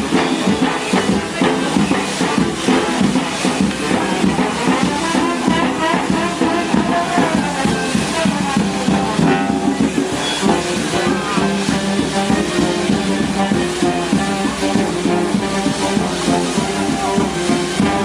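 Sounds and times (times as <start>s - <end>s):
music with instruments and drums: 0.0s - 18.0s.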